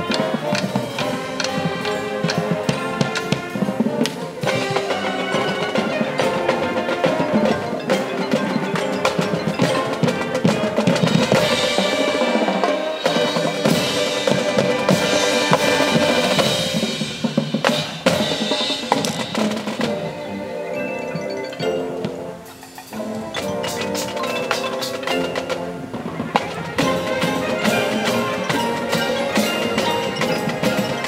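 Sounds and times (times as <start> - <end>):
brass horns playing: 0.0 - 31.0
snare and tenor drums: 0.0 - 31.0.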